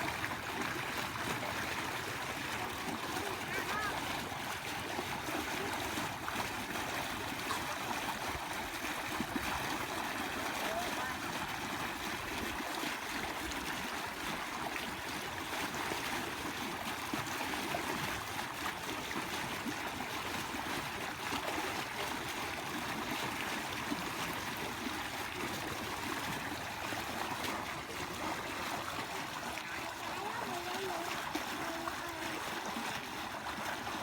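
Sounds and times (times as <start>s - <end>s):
stream water flowing: 0.0s - 34.0s.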